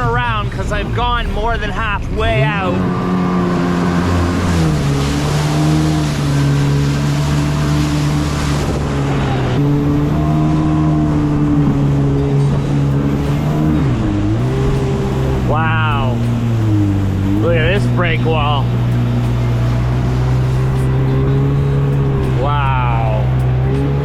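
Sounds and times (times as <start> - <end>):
jet ski engine running: 0.0 - 24.0
water and wind rushing: 0.0 - 24.0.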